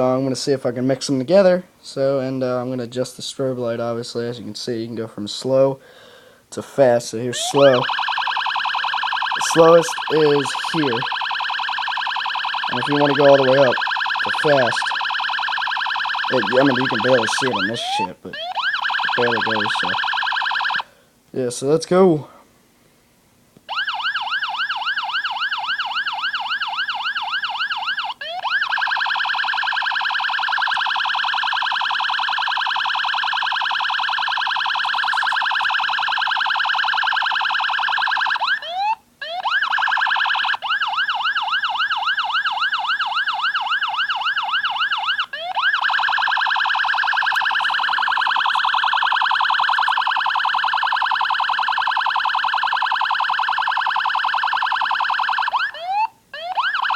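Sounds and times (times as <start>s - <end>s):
electronic police siren: 7.3s - 20.9s, 23.7s - 56.9s.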